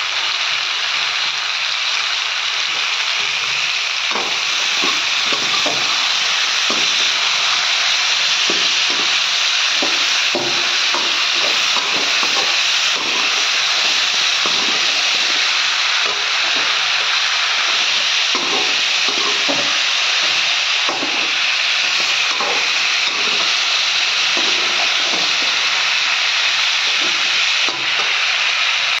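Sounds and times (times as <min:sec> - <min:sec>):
food sizzling in hot oil: 0:00.0 - 0:29.0
spatula scraping a pan: 0:04.1 - 0:28.2.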